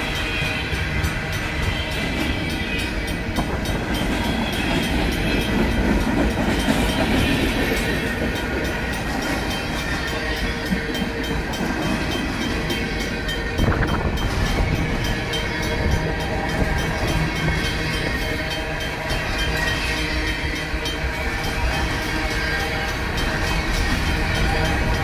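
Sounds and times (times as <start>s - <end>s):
crossing bell ringing: 0.0s - 25.0s.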